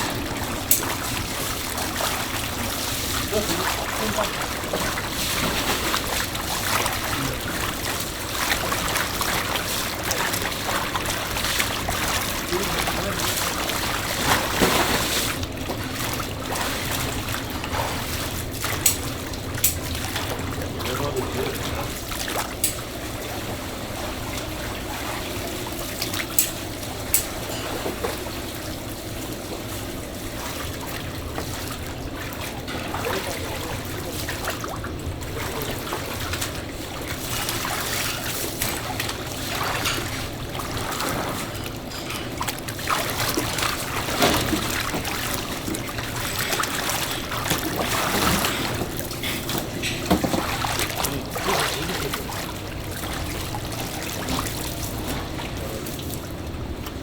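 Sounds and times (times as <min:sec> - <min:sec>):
splashing and handling noise: 0:00.0 - 0:57.0
water running and trickling: 0:00.0 - 0:57.0.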